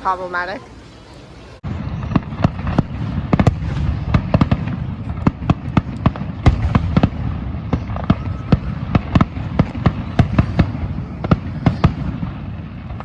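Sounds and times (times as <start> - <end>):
fireworks bangs: 1.6 - 13.0.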